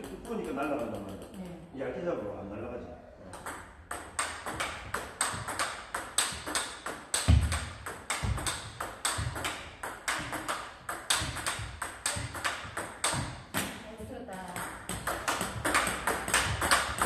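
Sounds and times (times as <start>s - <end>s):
ping-pong ball clicks: 0.0s - 1.6s, 3.3s - 17.0s.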